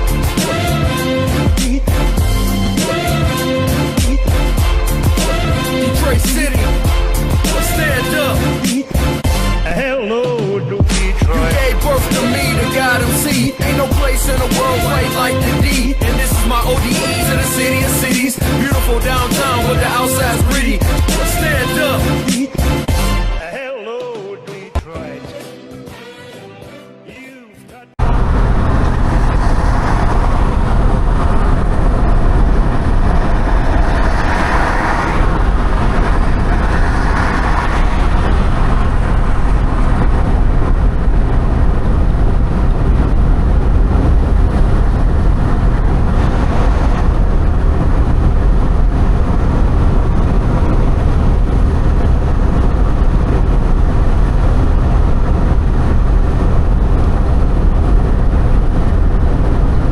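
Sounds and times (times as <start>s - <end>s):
moving vehicle rumble: 0.0s - 10.0s, 10.9s - 22.9s, 28.0s - 59.9s.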